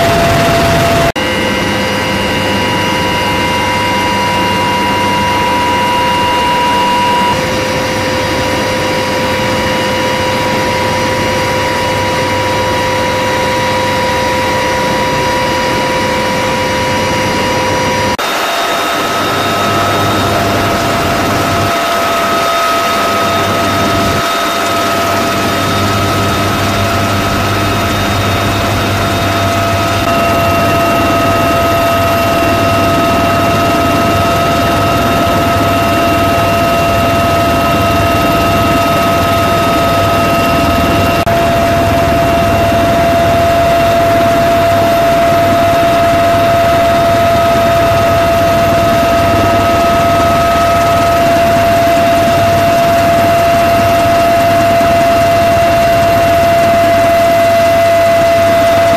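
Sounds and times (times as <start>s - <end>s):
helicopter rotor drone: 0.0s - 58.9s
helicopter turbine whine: 0.0s - 58.9s.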